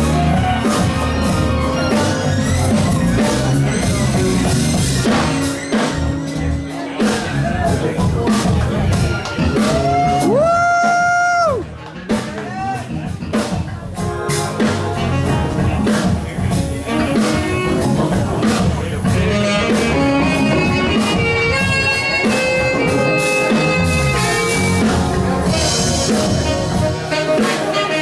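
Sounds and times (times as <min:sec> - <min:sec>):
blues-rock band playing: 0:00.0 - 0:28.0.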